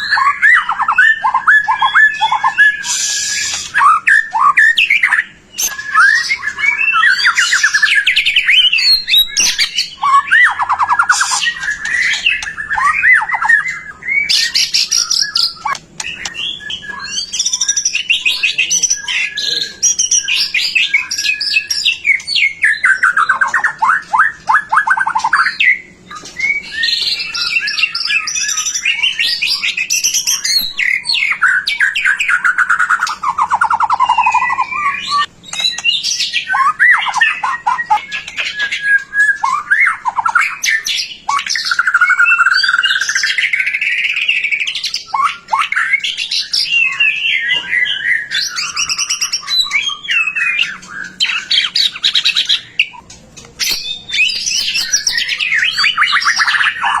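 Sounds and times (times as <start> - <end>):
bird song whistles and trills: 0.0 - 57.0.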